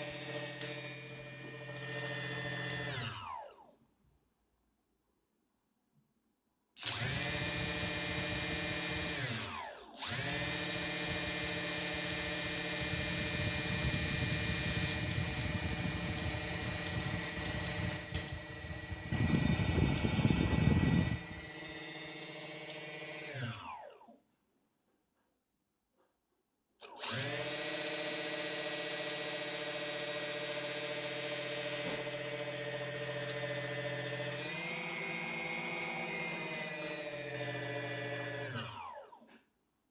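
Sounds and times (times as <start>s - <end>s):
quadcopter motors whining: 0.0s - 3.7s, 6.8s - 24.1s, 26.8s - 39.2s.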